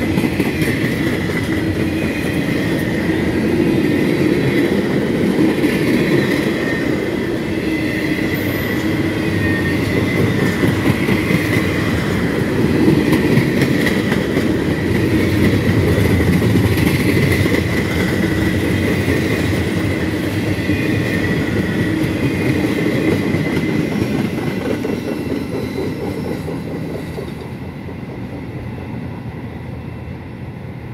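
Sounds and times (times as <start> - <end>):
train wheels clattering on rails: 0.0 - 28.6.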